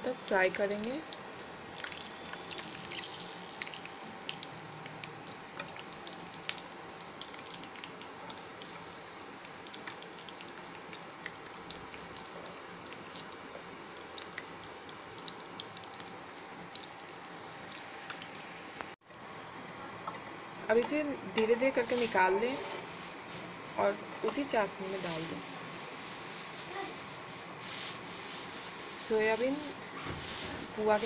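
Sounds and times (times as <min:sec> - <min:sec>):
bread frying in hot oil: 0:00.0 - 0:31.0.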